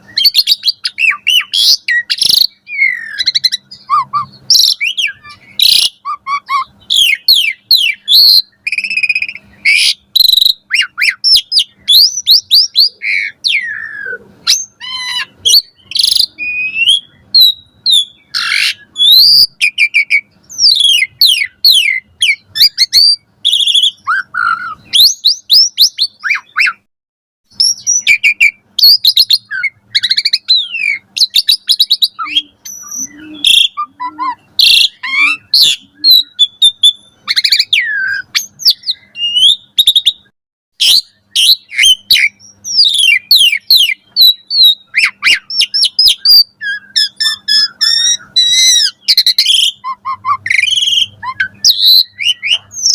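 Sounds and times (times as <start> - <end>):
starling singing: 0.0 - 26.9, 27.5 - 52.9.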